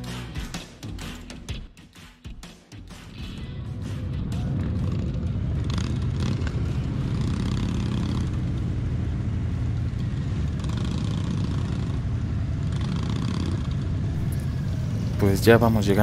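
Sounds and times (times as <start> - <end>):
motorcycle engine running steadily: 3.1 - 16.0.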